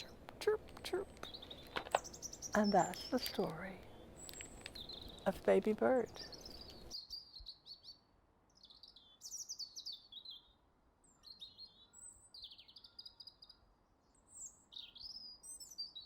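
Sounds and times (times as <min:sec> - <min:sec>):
faint songbird chirping: 0:00.0 - 0:16.0.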